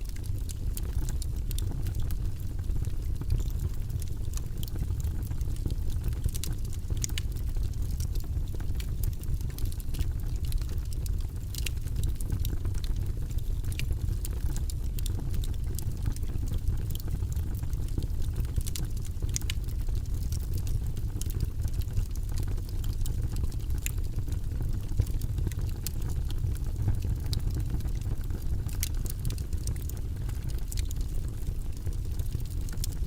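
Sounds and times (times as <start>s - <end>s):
fire flames rumbling: 0.0s - 33.0s
logs crackling and popping: 0.0s - 33.0s.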